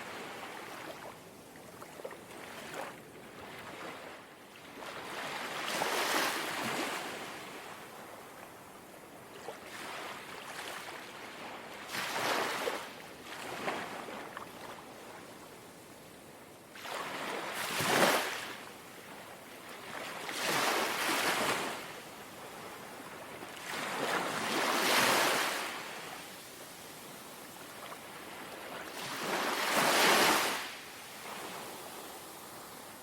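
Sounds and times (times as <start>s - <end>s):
gentle sea waves breaking: 0.0s - 8.4s, 9.1s - 15.5s, 16.7s - 33.0s.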